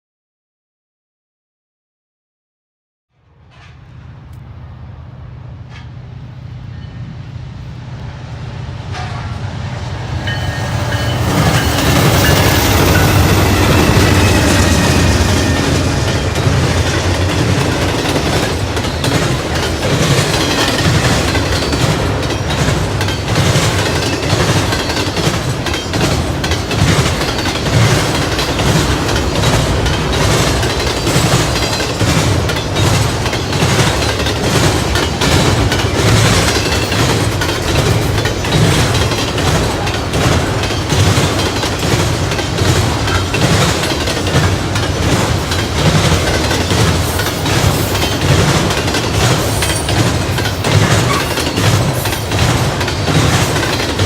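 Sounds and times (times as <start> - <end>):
freight train rumbling past: 3.3 - 54.0
wheels clicking over rail joints: 10.2 - 54.0.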